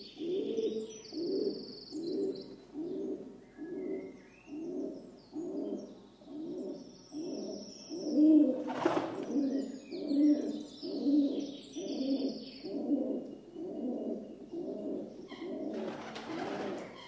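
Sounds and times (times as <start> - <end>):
pigeon cooing: 0.0 - 17.0
small birds chirping: 0.0 - 17.0.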